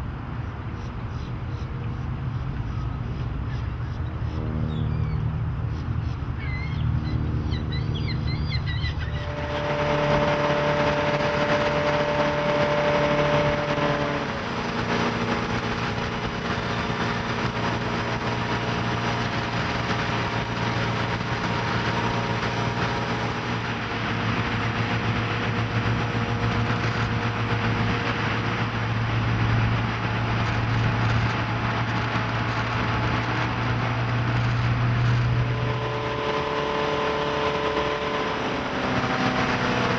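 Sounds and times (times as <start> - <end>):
boat engine: 0.0 - 39.9
rush of water and wind: 4.8 - 39.9.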